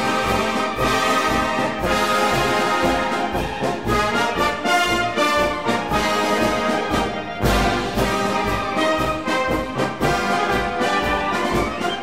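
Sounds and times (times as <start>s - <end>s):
brass band music: 0.0s - 12.0s.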